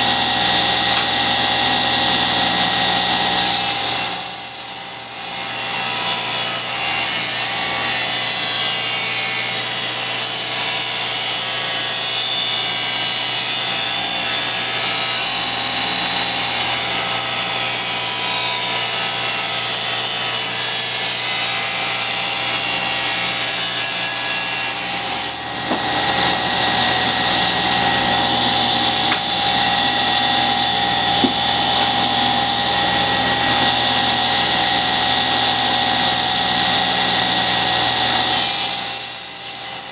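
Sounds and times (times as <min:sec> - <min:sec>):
table saw cutting wood: 0:00.0 - 0:39.9
table saw running: 0:00.0 - 0:39.9.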